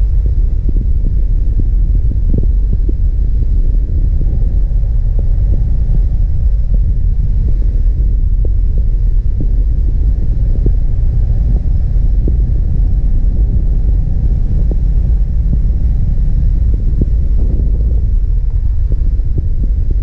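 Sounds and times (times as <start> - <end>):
car engine deep rumble: 0.0 - 20.0.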